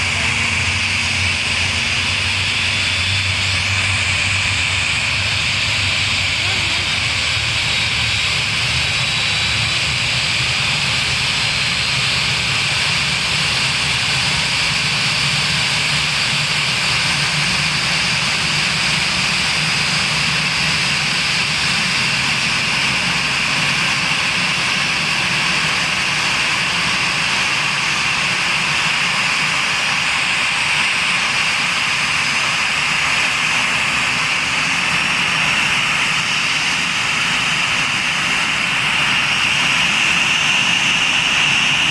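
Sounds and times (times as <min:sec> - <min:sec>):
jet engine running: 0:00.0 - 0:41.9.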